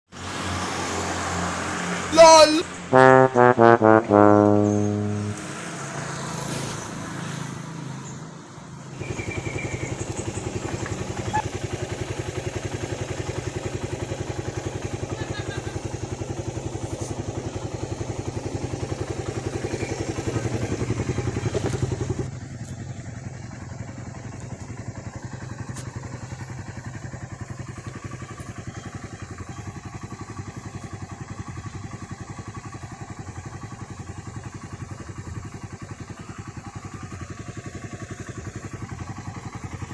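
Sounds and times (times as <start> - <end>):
motorcycle engine running: 2.6 - 39.9.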